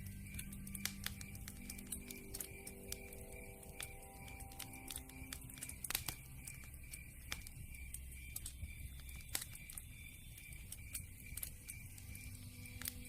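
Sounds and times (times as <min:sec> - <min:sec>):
campfire crackling: 0:00.0 - 0:13.0
sharp pops of fire: 0:00.0 - 0:13.0.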